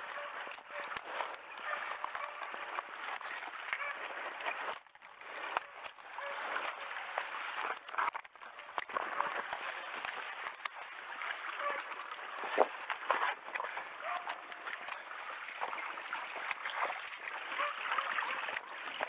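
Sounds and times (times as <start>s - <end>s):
footsteps splashing through stream: 0.0s - 19.0s
grass and brush rustling: 0.0s - 19.0s.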